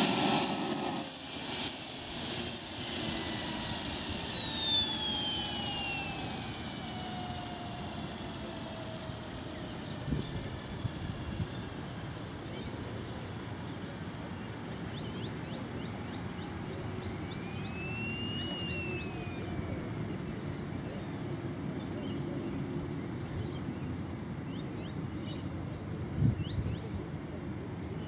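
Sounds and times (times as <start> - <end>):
distant gas turbine whine: 0.0 - 28.0.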